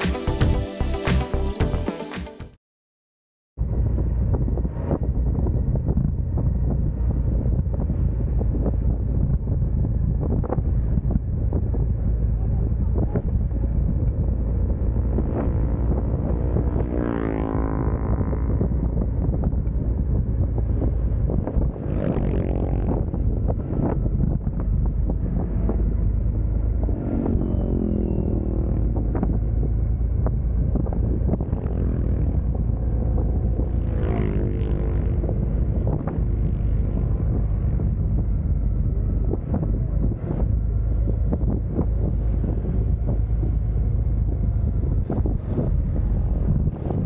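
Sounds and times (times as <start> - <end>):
wind buffeting microphone: 3.6 - 47.0.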